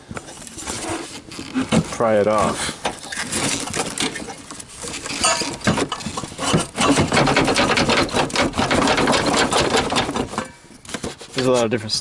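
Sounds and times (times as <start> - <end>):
metal and plastic clattering: 0.2 - 11.6.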